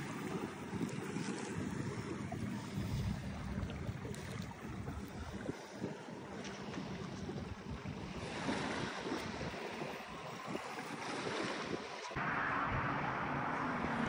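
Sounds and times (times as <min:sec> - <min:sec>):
surf on the shore: 0:00.0 - 0:14.0
wind buffeting microphone: 0:00.0 - 0:14.0.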